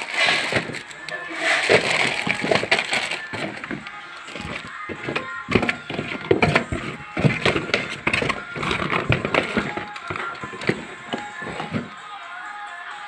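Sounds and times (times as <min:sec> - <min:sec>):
cardboard boxes knocking and scraping: 0:00.0 - 0:12.0.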